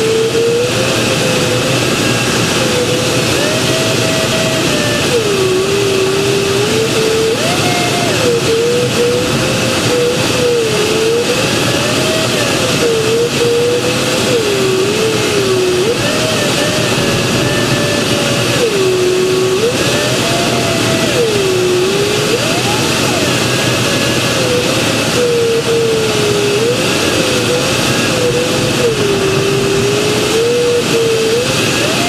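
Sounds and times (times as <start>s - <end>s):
airflow rushing over canopy: 0.0s - 32.0s
variometer tone wandering in pitch: 0.0s - 32.0s.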